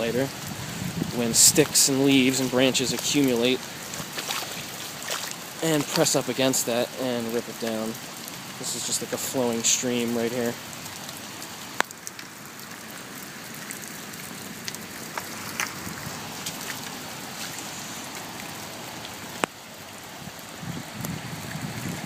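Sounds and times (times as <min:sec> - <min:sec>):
rain hissing: 0:00.0 - 0:22.0
rushing floodwater: 0:00.0 - 0:22.0.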